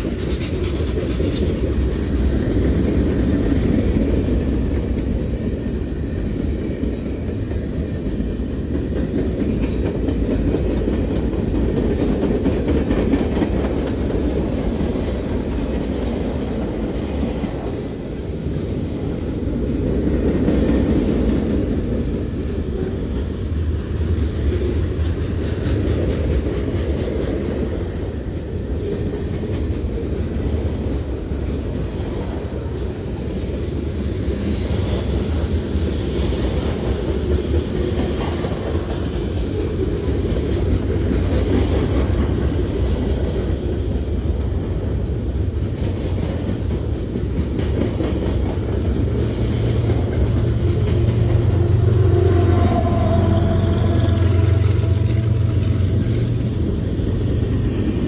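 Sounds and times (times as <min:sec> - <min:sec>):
freight train wheels rolling: 0:00.0 - 0:58.0.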